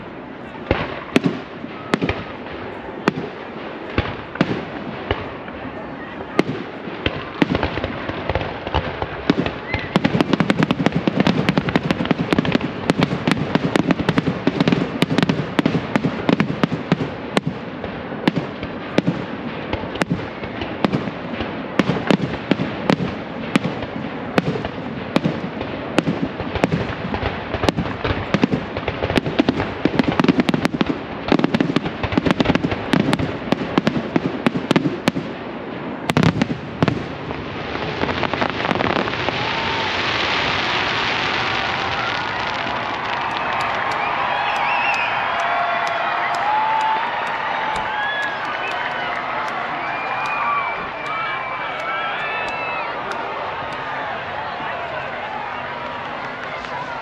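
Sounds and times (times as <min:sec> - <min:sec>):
fireworks barrage: 0:00.0 - 0:57.0.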